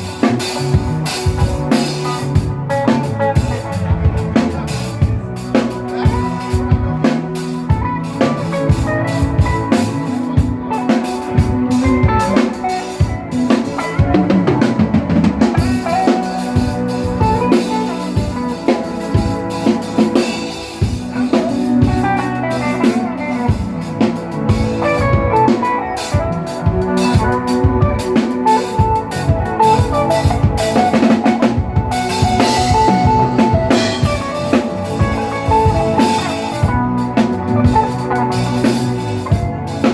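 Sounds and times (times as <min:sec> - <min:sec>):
band playing: 0:00.0 - 0:39.9.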